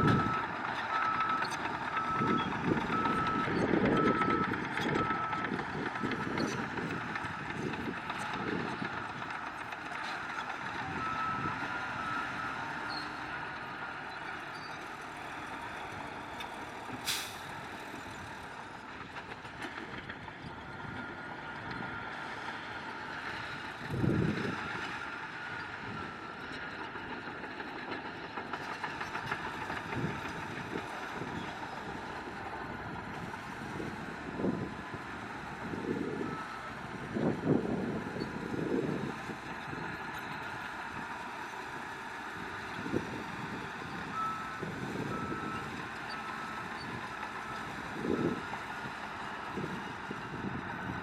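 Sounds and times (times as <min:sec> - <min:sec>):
heavy diesel machinery running: 0:00.0 - 0:51.0.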